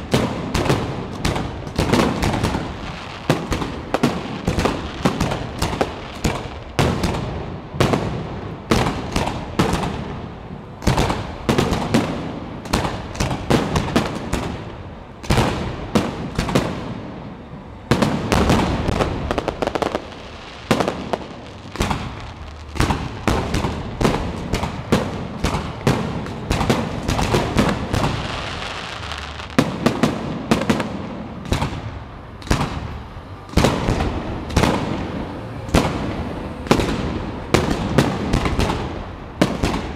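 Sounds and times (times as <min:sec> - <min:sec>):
fireworks bursting with sharp bangs: 0:00.0 - 0:39.9
fireworks crackle and hiss: 0:00.0 - 0:39.9.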